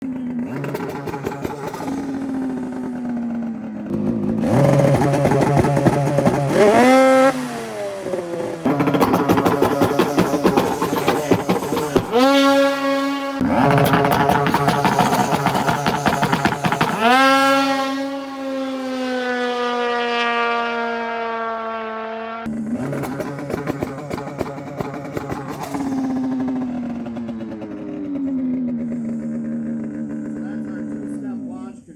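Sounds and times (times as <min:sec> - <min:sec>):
snowmobile engine revving: 0:00.0 - 0:31.9.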